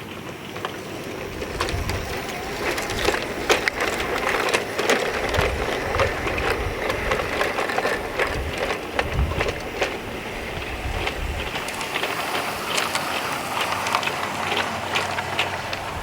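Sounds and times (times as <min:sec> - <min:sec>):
low rumble of train: 0:00.0 - 0:16.0
model train wheels clattering: 0:00.0 - 0:16.0.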